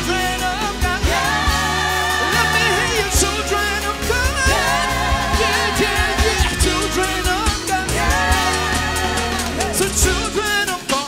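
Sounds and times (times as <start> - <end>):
bass line: 0.0 - 11.0
drum beats: 0.0 - 11.0
voices singing gospel song: 0.0 - 11.0.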